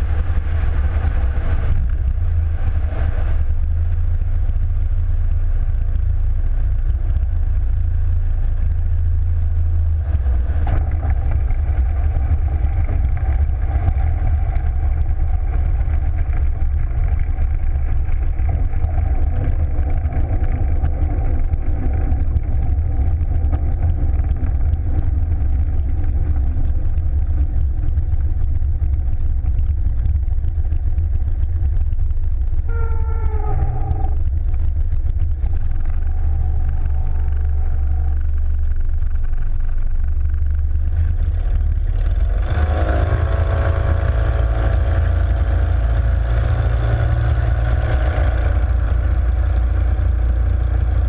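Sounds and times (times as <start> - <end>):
aircraft engine low rumble: 0.0 - 51.0
engine hum with several tones: 0.0 - 51.0.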